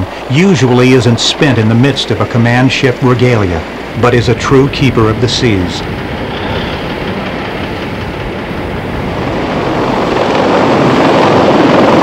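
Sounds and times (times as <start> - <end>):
helicopter rotors and turbines: 0.0 - 12.0.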